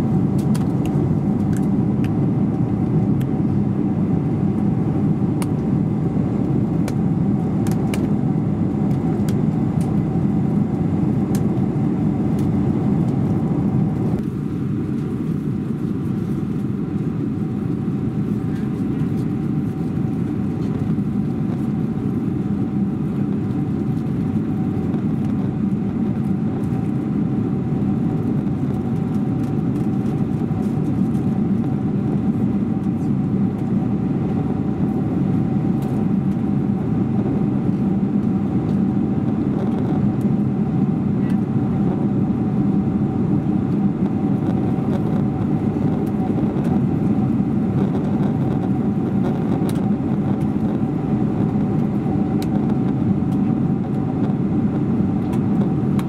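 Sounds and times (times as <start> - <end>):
airplane cabin airflow and engine: 0.0 - 56.0.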